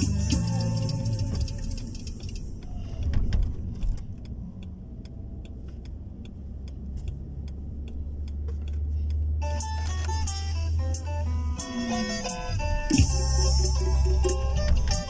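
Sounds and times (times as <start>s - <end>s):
car cabin rumble: 0.0s - 10.3s, 11.4s - 15.0s
turn signal ticking: 0.0s - 15.0s.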